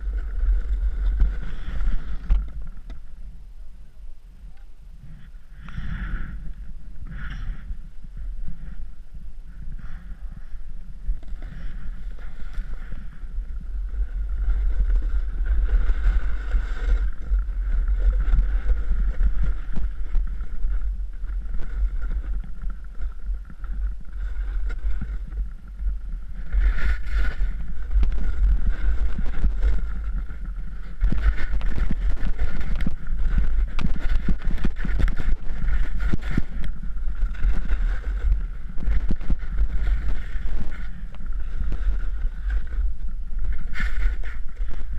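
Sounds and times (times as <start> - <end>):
snowboard sliding on snow: 0.0 - 2.7, 5.7 - 44.9
wind buffeting microphone: 0.0 - 44.9.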